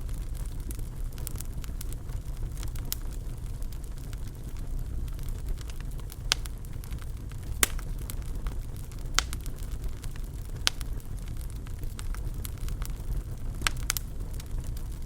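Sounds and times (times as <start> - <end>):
fire crackling and popping: 0.0 - 15.0
wood fire flames rumbling: 0.0 - 15.0.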